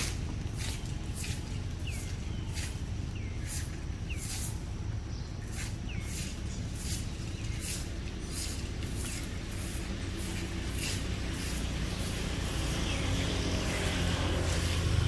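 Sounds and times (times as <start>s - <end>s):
bird chirping: 0.0s - 15.0s
low steady rumble: 0.0s - 15.0s.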